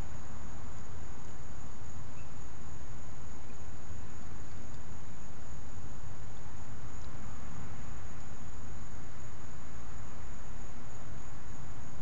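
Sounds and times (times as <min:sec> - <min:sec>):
constant hiss: 0:00.0 - 0:12.0
high insect trill: 0:00.0 - 0:12.0.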